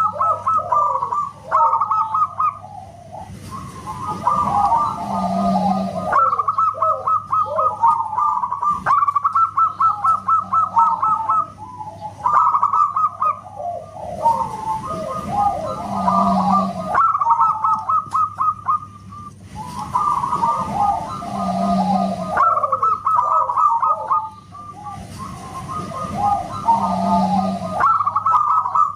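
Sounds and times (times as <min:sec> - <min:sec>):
doves cooing: 0:00.0 - 0:28.9.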